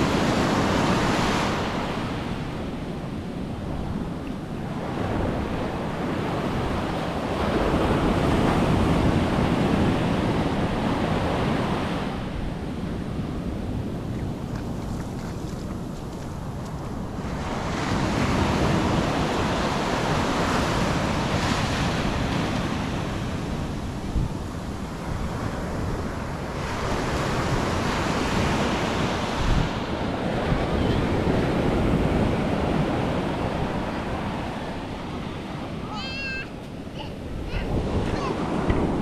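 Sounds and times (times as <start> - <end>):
ocean surf breaking on beach: 0.0 - 39.0
wind buffeting microphone: 0.0 - 39.0.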